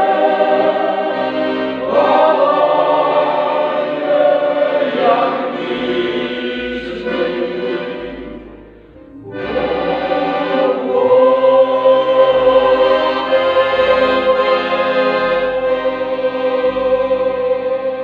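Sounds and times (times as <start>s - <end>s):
mixed choir singing: 0.0s - 8.6s, 9.2s - 18.0s
accordion: 0.0s - 18.0s.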